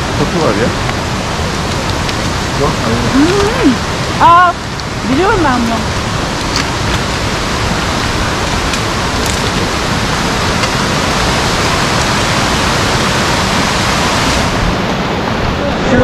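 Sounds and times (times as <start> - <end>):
rush of falling water: 0.0 - 16.0.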